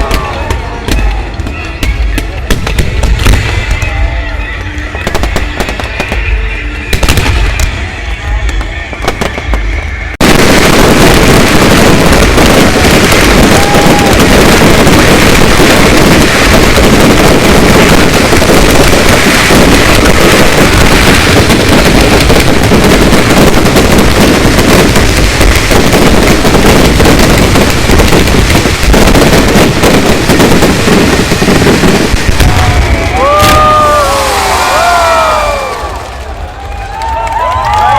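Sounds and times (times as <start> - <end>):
fireworks exploding: 0.0 - 37.9.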